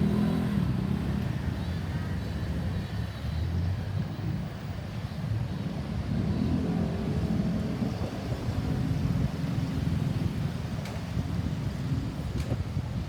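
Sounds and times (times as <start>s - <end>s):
road traffic engines rumbling: 0.0s - 13.0s.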